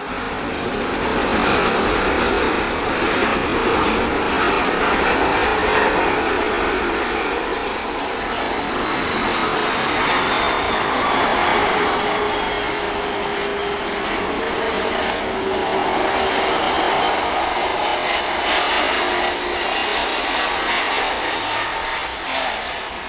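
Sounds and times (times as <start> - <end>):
jet engines rushing: 0.0 - 23.0
faint high whine: 1.8 - 23.0.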